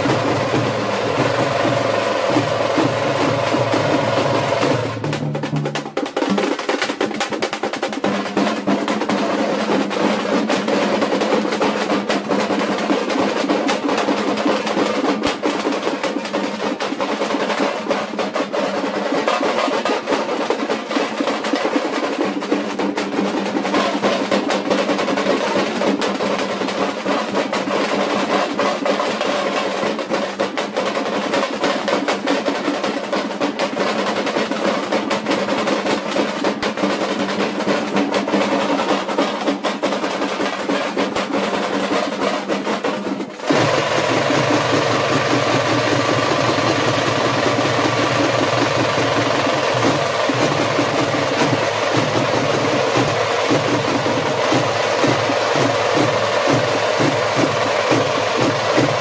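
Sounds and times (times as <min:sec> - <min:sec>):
frame drums beaten with sticks: 0:00.0 - 0:59.0.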